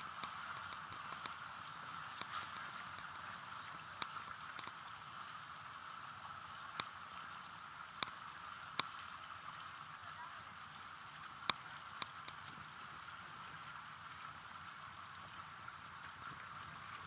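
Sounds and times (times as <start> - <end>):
water washing along boat hull: 0.0 - 17.0.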